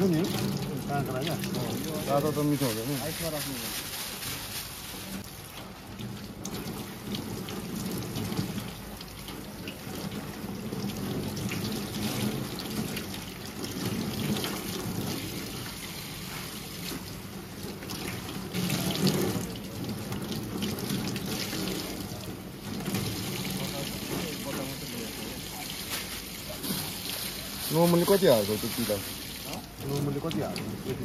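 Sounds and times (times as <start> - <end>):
tap water running into sink: 0.0 - 3.4, 5.2 - 31.0.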